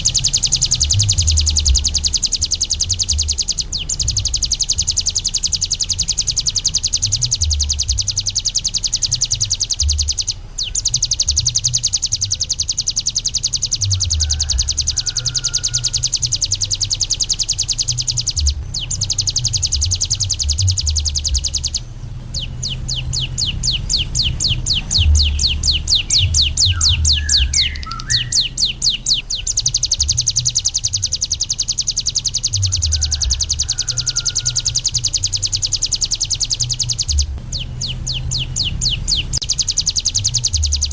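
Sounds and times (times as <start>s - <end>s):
bird singing fast high trill: 0.0s - 40.9s.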